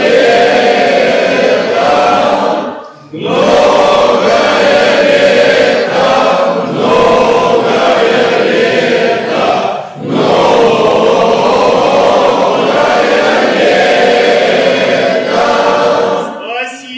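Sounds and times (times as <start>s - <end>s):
voices chanting a hymn: 0.0s - 16.9s.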